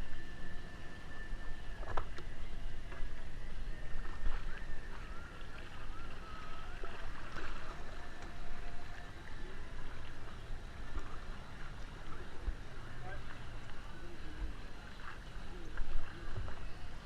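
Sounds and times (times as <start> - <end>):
kayak paddles splashing: 0.0 - 17.0
water sloshing against hulls: 1.4 - 17.0.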